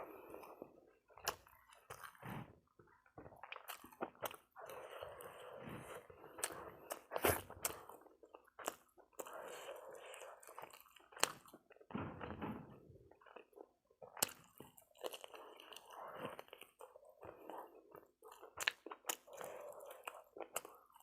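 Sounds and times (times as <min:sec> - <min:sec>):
chewing: 0:00.2 - 0:12.3, 0:13.0 - 0:21.0.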